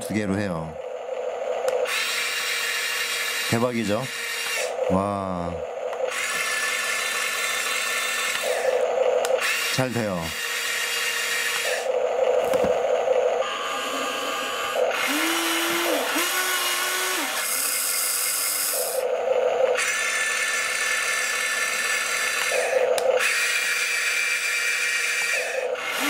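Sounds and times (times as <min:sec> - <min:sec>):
small electric motors whining: 0:00.5 - 0:26.0.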